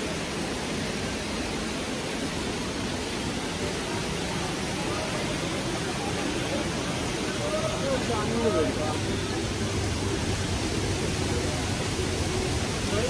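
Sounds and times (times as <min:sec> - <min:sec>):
stream water rushing: 0:00.0 - 0:13.0
faint voices: 0:00.2 - 0:13.0.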